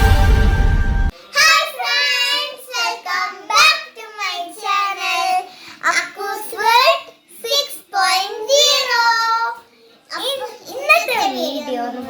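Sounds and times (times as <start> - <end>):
child singing: 1.3 - 12.0.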